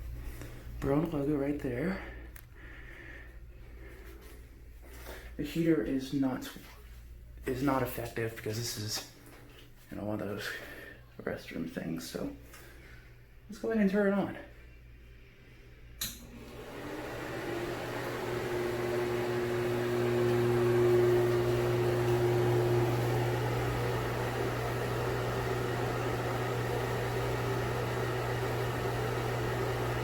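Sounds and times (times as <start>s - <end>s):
exhaust fan buzzy hum: 0.0s - 30.0s.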